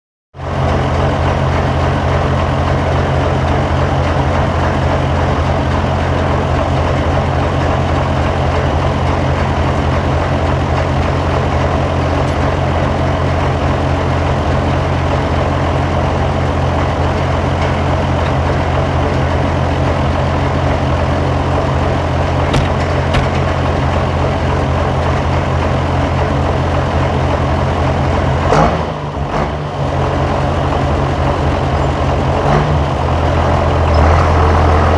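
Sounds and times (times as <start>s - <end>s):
tractor diesel engine running: 0.4s - 28.5s.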